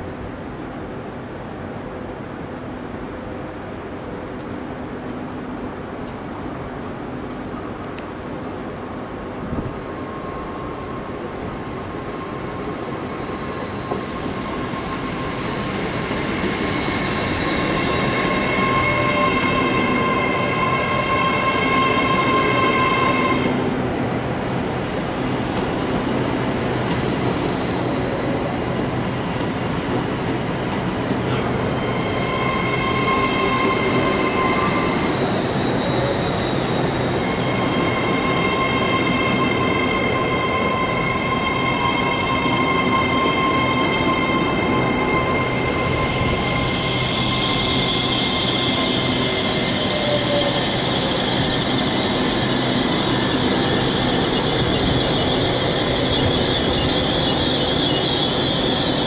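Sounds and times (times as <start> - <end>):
train squealing: 8.5 - 59.0
harsh hissing train squeal: 9.7 - 24.0, 24.8 - 29.4, 30.0 - 59.0.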